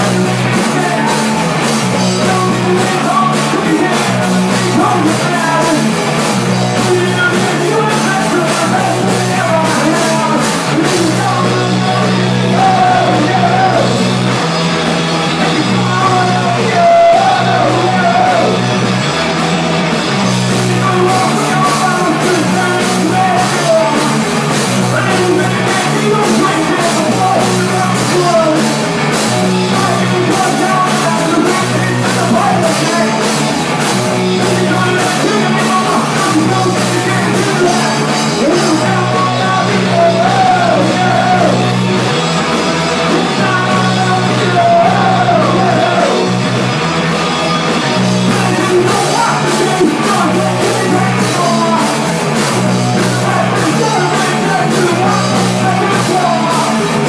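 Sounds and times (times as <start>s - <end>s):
person singing and shouting: 0.0s - 14.2s, 15.4s - 18.8s, 20.4s - 46.6s, 47.3s - 57.0s
electric bass guitar: 0.0s - 57.0s
rock band playing live: 0.0s - 57.0s.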